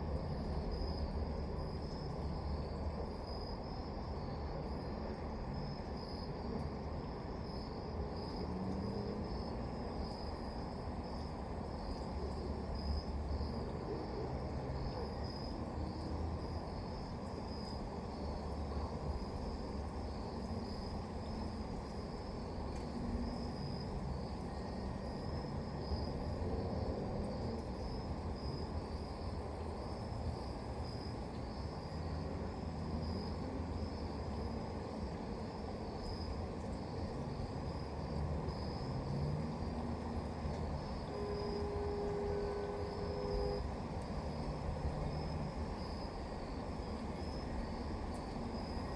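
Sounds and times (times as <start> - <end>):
crickets chirping: 0.0 - 48.9.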